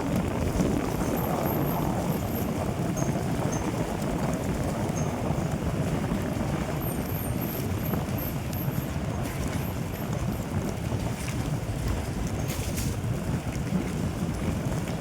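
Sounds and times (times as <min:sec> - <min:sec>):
vehicle engine and road noise: 0:00.0 - 0:15.0
wind on microphone: 0:00.0 - 0:15.0.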